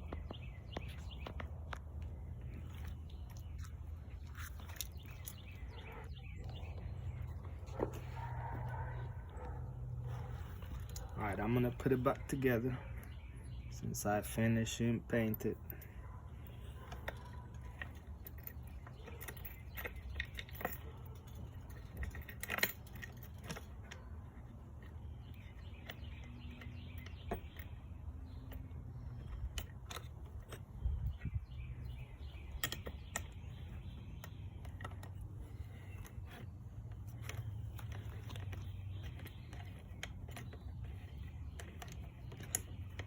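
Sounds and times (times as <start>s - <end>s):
metal parts and tools clinking: 0.8s - 43.0s.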